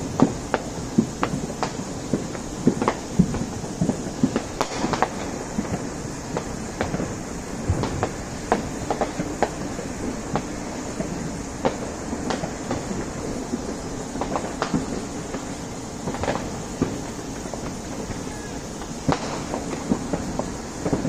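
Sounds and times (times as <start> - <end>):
distant fireworks popping and banging: 0.0 - 21.0.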